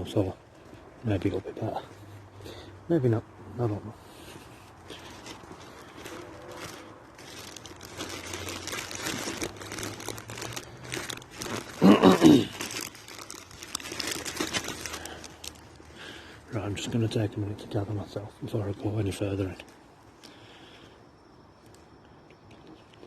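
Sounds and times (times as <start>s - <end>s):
crinkling and crunching rustle: 0.0s - 20.5s, 21.6s - 23.0s.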